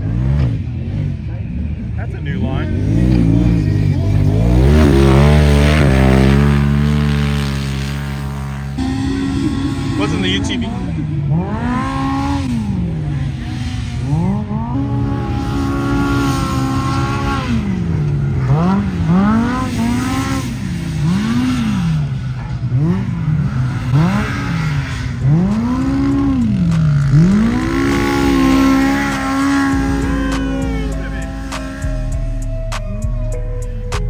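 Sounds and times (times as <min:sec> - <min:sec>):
off-road vehicle engine revving: 0:00.0 - 0:34.0.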